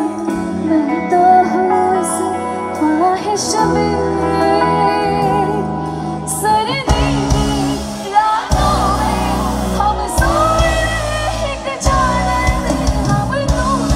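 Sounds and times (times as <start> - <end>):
rock band playing: 0.0 - 13.9
woman singing through pa: 0.0 - 13.9.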